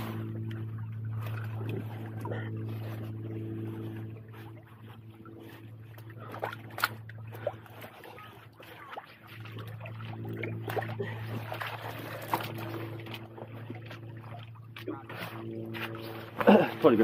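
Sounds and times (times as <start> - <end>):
low engine hum: 0.0 - 17.0
seawater trickling and splashing: 0.0 - 17.0.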